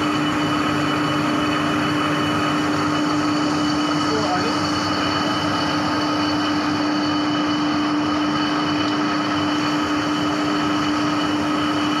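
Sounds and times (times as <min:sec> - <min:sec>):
lathe machine hum: 0:00.0 - 0:12.0.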